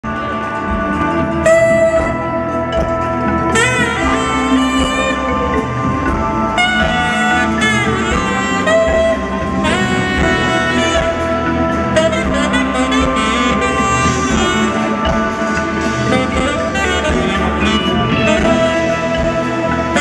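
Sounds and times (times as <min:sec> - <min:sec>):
band backing music: 0:00.0 - 0:20.0
saxophone solo: 0:00.0 - 0:20.0.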